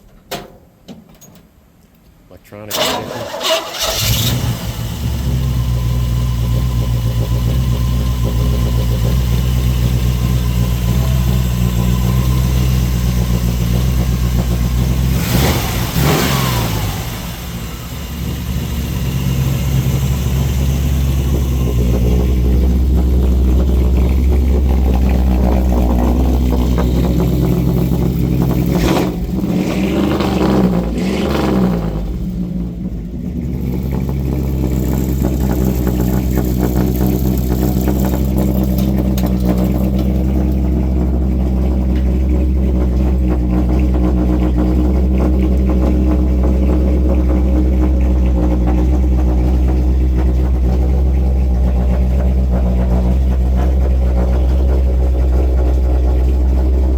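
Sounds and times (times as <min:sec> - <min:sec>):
car engine idling and revving: 0:02.7 - 0:56.9.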